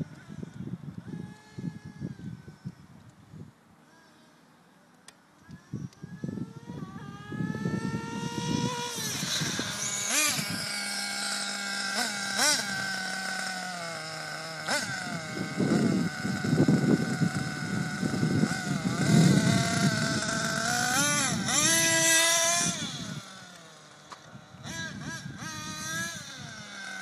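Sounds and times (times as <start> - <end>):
small engine whining: 0.0 - 27.0.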